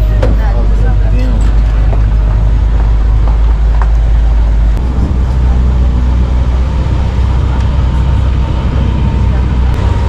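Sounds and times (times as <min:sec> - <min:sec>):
moving vehicle rumble: 0:00.0 - 0:10.0.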